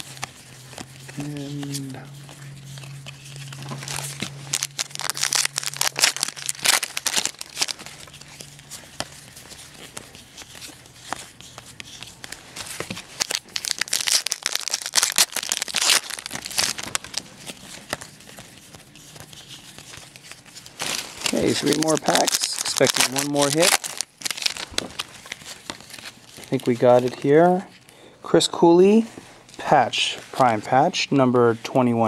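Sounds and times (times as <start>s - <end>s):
trading cards shuffled: 0.0s - 27.9s.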